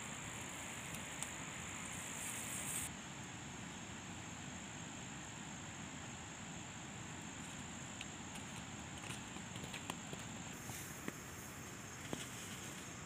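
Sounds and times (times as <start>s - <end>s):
crickets droning: 0.0s - 13.0s
open-air hiss: 0.0s - 13.0s.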